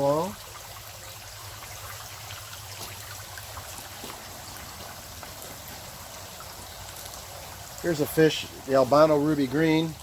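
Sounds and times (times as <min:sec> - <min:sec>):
water trickling and splashing: 0:00.0 - 0:10.0.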